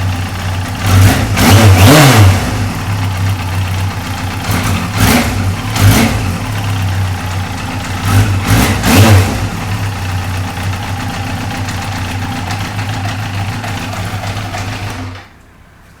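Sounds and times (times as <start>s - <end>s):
motorcycle engine idling: 0.0s - 15.2s
engine throttle blips: 0.0s - 15.3s.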